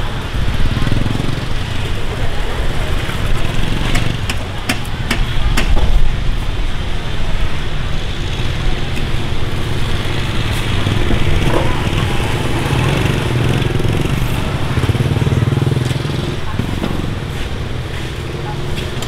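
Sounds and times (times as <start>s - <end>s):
market bustle: 0.0s - 19.0s
motorbike engines rumbling: 0.0s - 19.0s.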